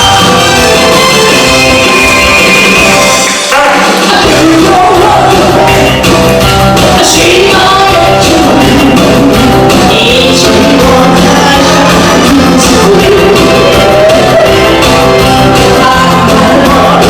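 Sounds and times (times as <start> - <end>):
steady drum beat: 0.0 - 17.0
upbeat pop song: 0.0 - 17.0
person singing: 1.3 - 17.0.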